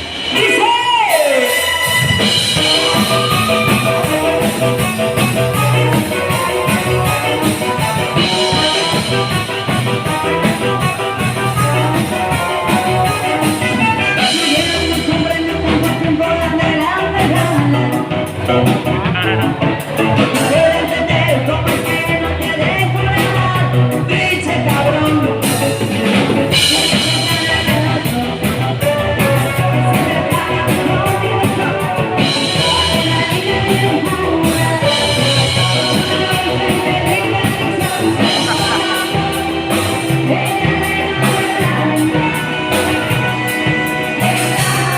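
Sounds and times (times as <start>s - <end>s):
rock song with singing: 0.0s - 44.9s.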